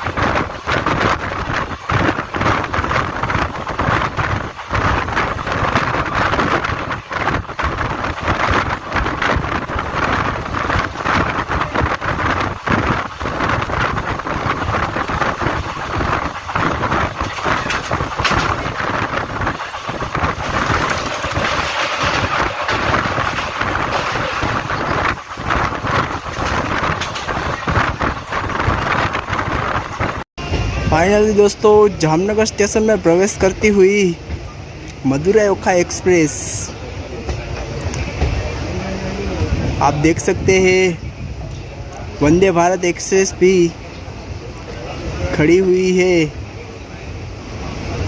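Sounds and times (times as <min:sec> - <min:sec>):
train wheels rumbling on rails: 0:00.0 - 0:48.0
wind buffeting microphone: 0:00.0 - 0:48.0.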